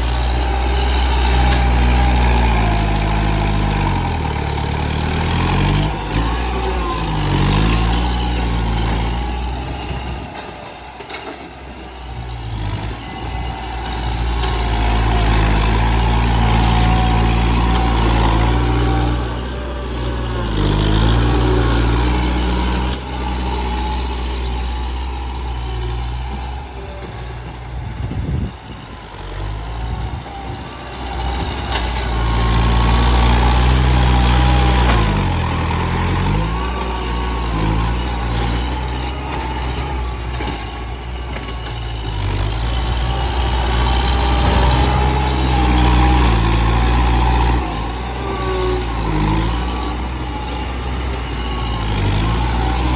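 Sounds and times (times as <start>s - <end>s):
heavy truck engine running: 0.0s - 52.9s.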